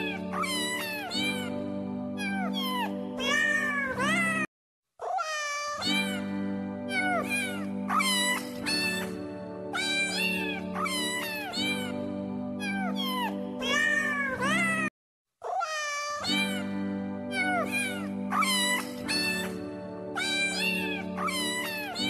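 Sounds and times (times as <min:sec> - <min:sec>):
cat meowing: 0:00.0 - 0:01.5, 0:02.2 - 0:06.2, 0:06.9 - 0:09.1, 0:09.8 - 0:12.0, 0:12.6 - 0:16.7, 0:17.3 - 0:19.6, 0:20.2 - 0:22.0.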